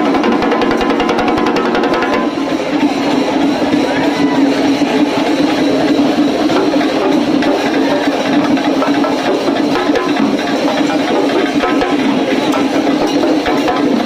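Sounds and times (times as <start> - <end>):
drums beaten with sticks: 0.0 - 14.0.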